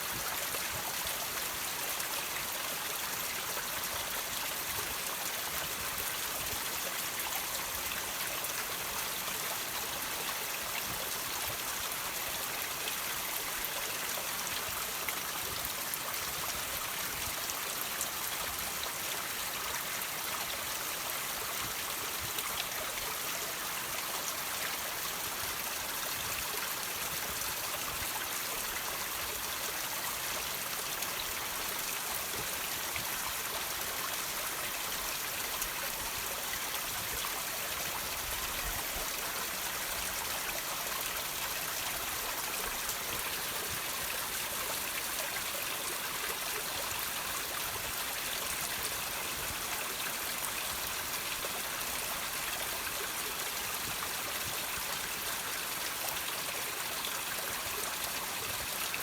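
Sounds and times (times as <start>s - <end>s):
water trickling over rocks: 0.0s - 59.0s.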